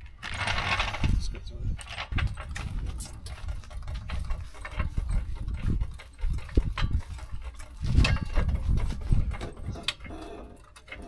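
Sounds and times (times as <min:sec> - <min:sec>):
hydraulic jack pumping: 0:01.8 - 0:11.0.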